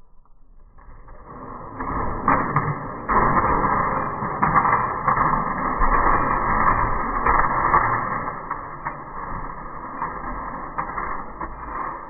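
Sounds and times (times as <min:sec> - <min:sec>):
plastic tiles crashing and clattering: 0:01.7 - 0:12.0.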